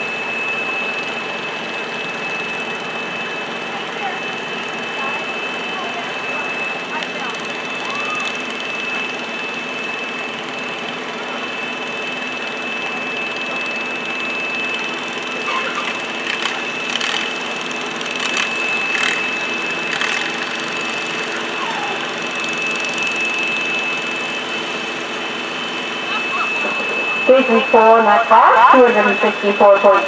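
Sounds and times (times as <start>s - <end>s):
thin high whine: 0.0s - 30.0s
tractor engines idling: 2.5s - 30.0s.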